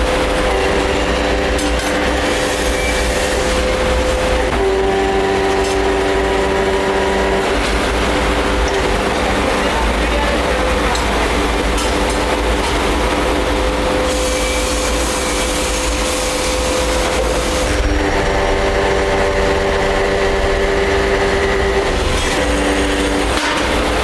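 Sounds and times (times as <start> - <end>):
heavy machinery humming and whining: 0.0 - 24.0.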